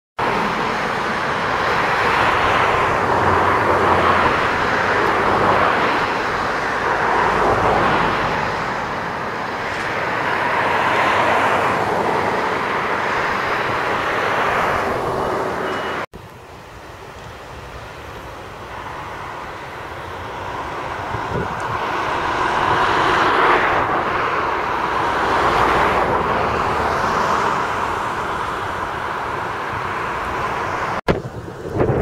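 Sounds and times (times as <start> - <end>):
diesel locomotive and train passing: 0.2 - 32.0
wheels on rail rumbling: 0.2 - 32.0.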